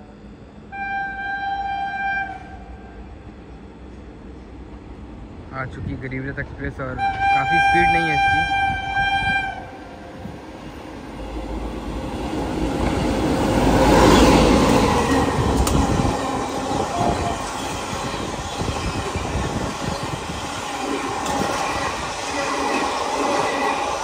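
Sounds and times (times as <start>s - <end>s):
train coaches rumbling past: 0.0s - 24.0s
locomotive passing: 2.7s - 24.0s.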